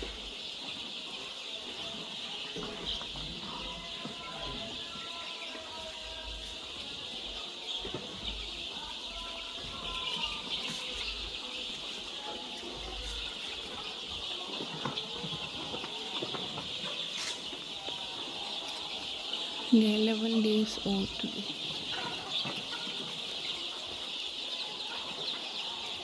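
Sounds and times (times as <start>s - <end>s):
chicks peeping and chirping: 0.0s - 26.0s.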